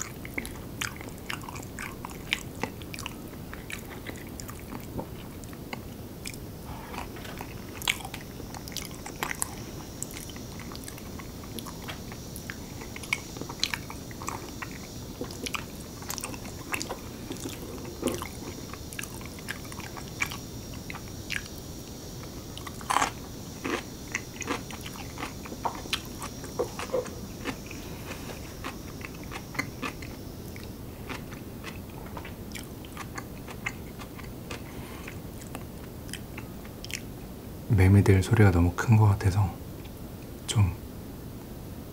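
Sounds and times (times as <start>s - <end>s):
wet chewing and crunching: 0.0s - 37.1s
cicadas droning: 0.0s - 41.9s.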